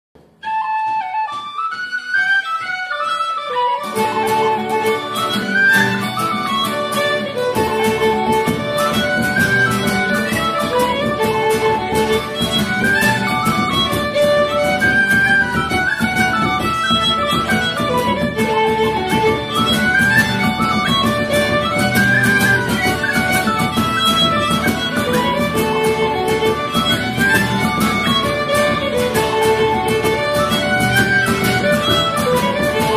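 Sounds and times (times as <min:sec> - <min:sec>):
instrumental music with beat: 0:00.2 - 0:32.9.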